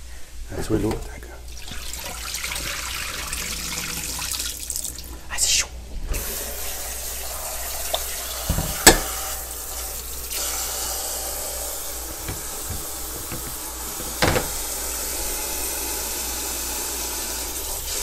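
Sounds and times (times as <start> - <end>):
faucet water running into sink: 0.9 - 5.2, 6.2 - 18.0.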